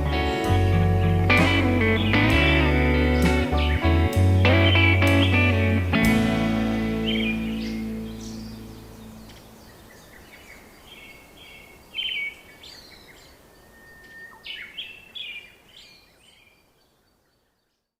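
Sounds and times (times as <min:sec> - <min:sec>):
birds chirping: 0:00.0 - 0:18.0
faint outdoor background noise: 0:00.0 - 0:18.0.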